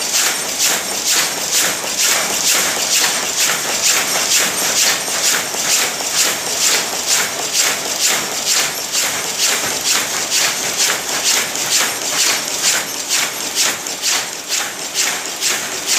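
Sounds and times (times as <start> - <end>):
weaving loom clattering: 0.0 - 15.9.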